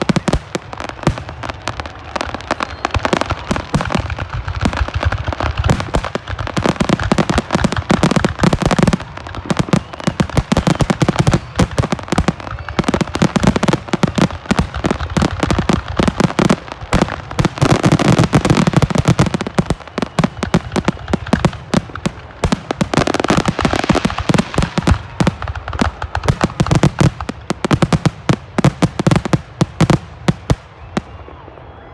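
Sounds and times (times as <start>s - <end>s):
fireworks bangs and crackling pops: 0.0s - 31.8s.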